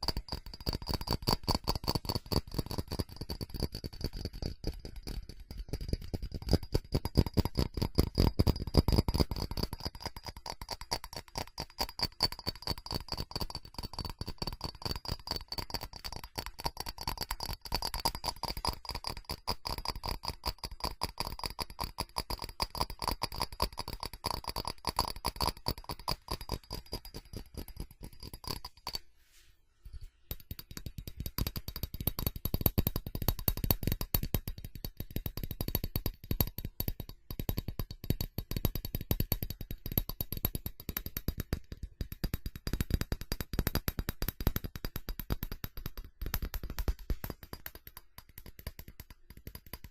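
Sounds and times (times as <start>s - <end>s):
rapid tapping on ceramic: 0.0s - 29.1s, 29.9s - 49.9s.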